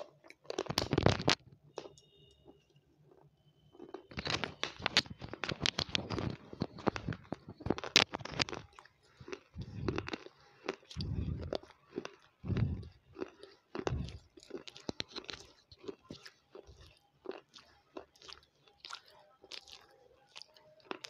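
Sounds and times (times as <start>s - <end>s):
person crunching crumbly food: 0.0s - 2.0s, 3.0s - 21.0s
dull deep chewing: 0.0s - 21.0s.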